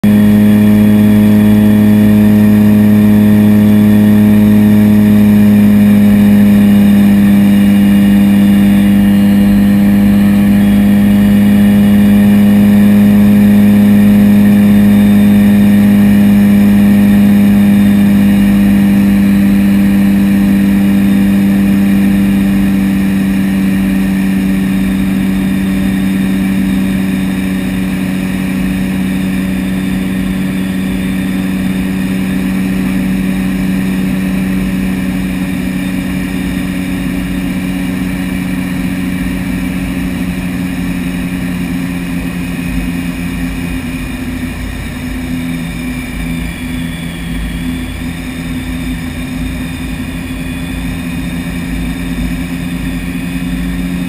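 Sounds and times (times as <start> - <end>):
propeller engines droning: 0.0 - 54.0.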